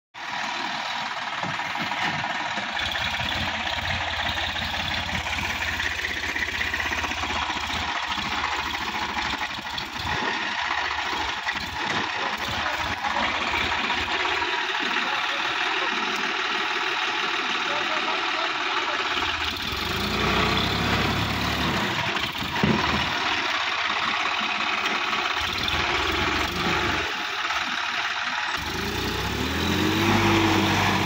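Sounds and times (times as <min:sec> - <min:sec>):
tractor diesel engine running: 0:00.2 - 0:31.0.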